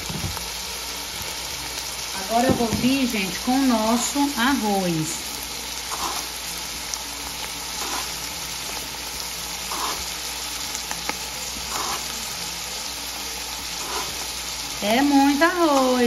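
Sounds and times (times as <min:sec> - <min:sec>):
vegetables sizzling in butter: 0:00.0 - 0:16.0.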